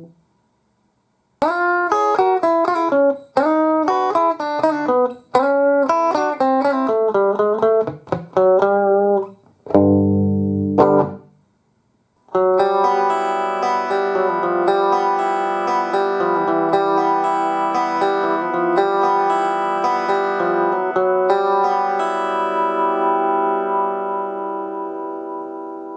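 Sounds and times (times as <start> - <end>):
amplified electric guitar: 1.4 - 11.3, 12.3 - 25.9.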